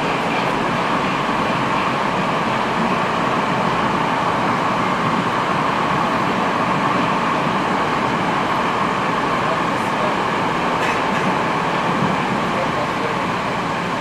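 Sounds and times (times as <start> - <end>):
metro train running at speed: 0.0 - 14.0.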